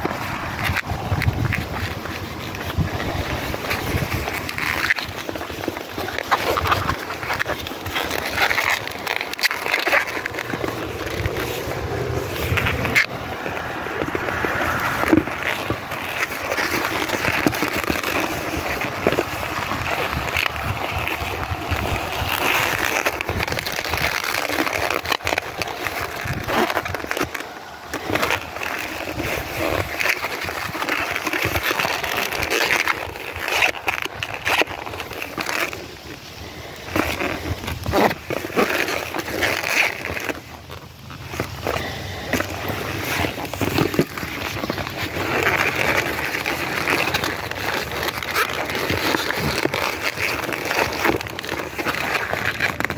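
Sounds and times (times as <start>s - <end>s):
rubber balloons squeaking: 0.0s - 52.9s.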